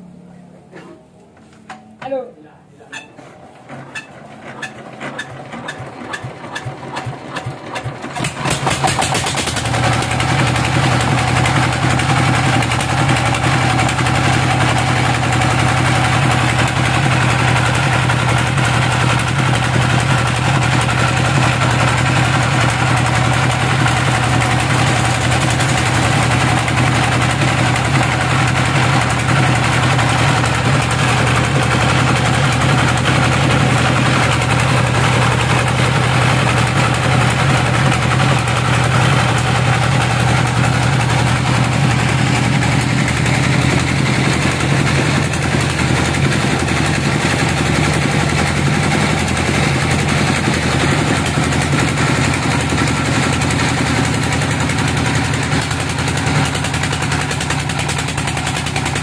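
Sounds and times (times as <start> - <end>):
stationary engine driving band saw: 3.4 - 59.0.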